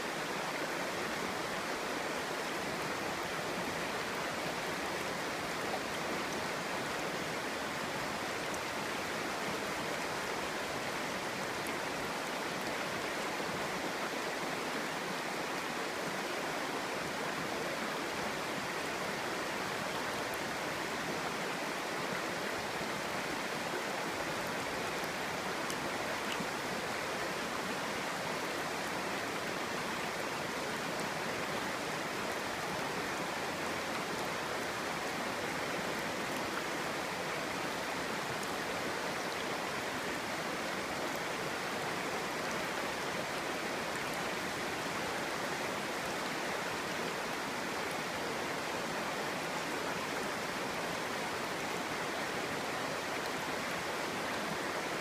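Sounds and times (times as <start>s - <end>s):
stream babbling over rocks: 0.0s - 55.0s.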